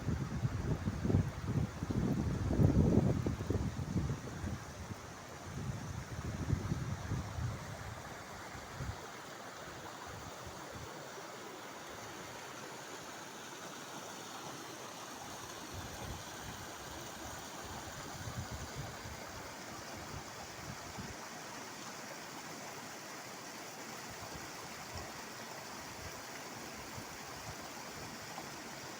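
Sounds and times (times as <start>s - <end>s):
running water rushing: 0.0s - 28.9s.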